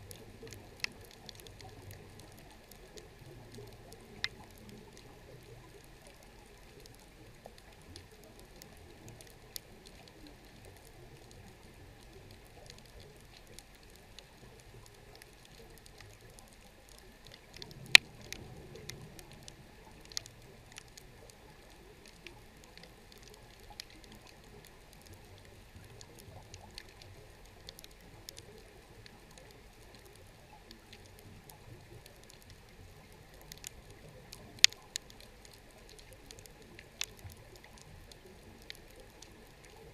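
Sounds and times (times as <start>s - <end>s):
faint underwater hiss: 0.0s - 39.9s
sharp clicks and crackles: 0.0s - 39.9s.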